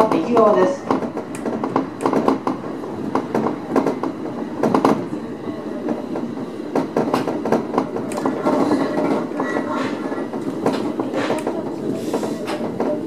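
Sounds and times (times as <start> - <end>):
wheels clicking over rail joints: 0.0 - 5.1, 5.8 - 13.0
train rumbling: 0.0 - 13.0.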